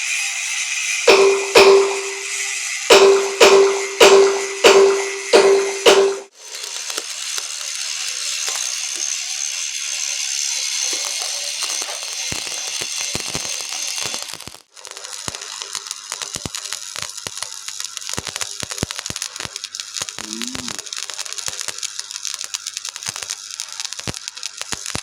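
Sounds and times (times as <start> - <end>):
welding arc crackling: 0.0 - 25.0.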